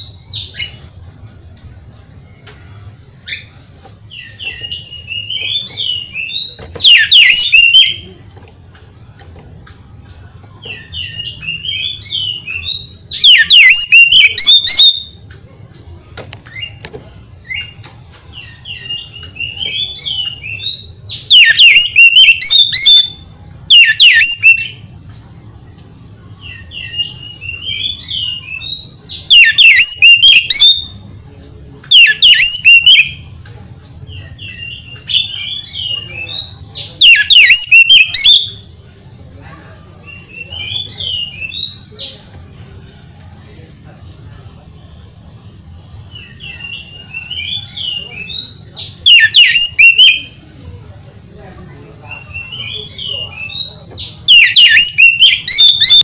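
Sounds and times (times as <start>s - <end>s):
magpie-robin song: 0.0s - 0.9s, 2.2s - 8.2s, 9.6s - 15.4s, 16.4s - 25.7s, 26.3s - 33.4s, 34.0s - 38.8s, 40.0s - 42.3s, 45.4s - 50.4s, 52.0s - 56.0s.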